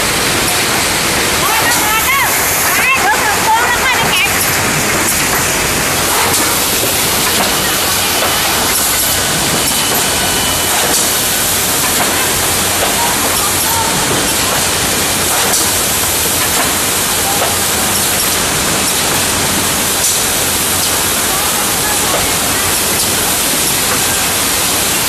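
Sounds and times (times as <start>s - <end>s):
packing machine running: 0.0s - 25.0s.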